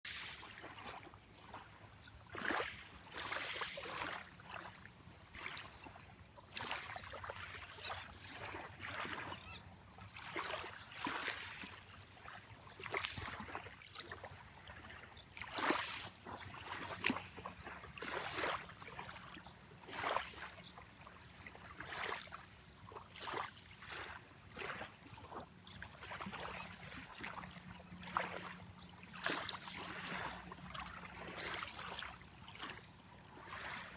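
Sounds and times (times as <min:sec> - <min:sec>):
small waves lapping and splashing: 0:00.1 - 0:33.9.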